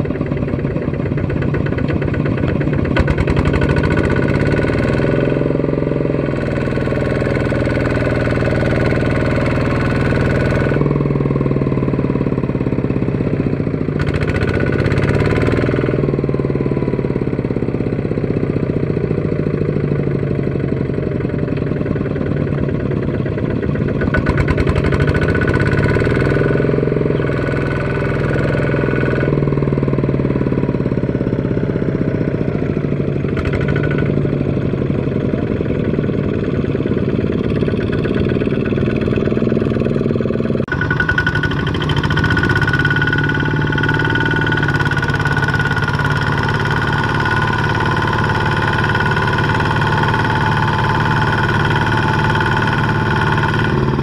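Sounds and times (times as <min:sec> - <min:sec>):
walking tractor diesel engines: 0:00.0 - 0:54.0.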